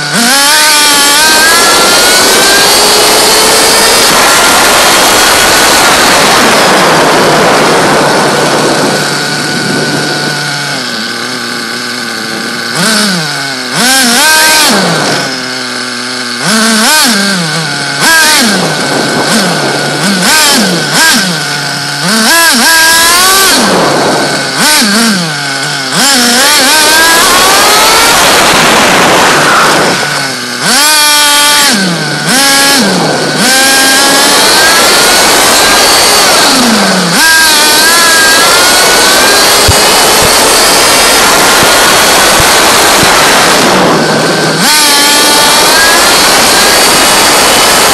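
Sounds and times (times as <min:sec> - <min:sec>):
small two-stroke engine revving: 0:00.0 - 0:47.9.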